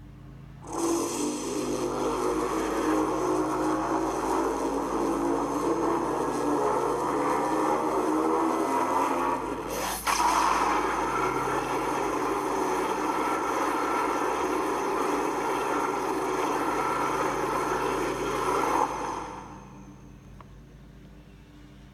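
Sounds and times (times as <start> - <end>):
long rasping monster roar: 0.6 - 19.7.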